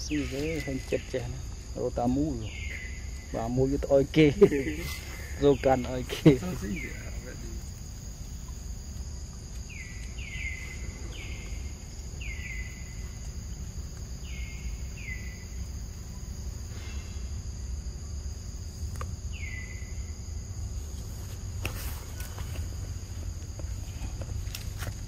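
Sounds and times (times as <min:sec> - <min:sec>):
high-pitched insect drone: 0:00.0 - 0:24.8
low outdoor rumble: 0:00.0 - 0:25.0.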